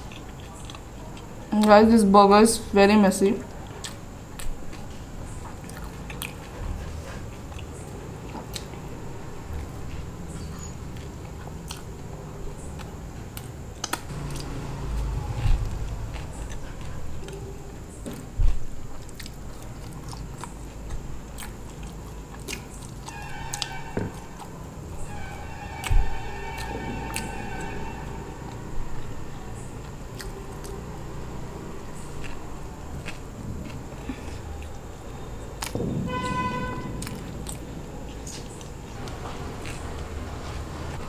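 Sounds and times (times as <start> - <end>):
biting and chewing: 0.0 - 1.8, 3.4 - 27.7, 28.4 - 41.0.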